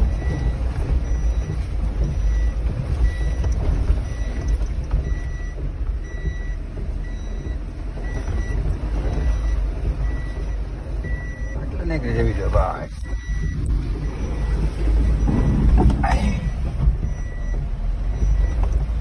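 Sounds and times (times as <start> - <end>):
car engine rumble: 0.0 - 19.0
short electronic beeps: 0.1 - 18.7.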